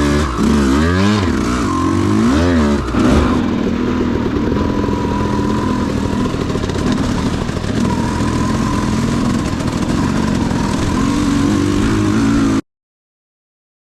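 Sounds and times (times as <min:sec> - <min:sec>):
dirt bike engine running: 0:00.0 - 0:12.6.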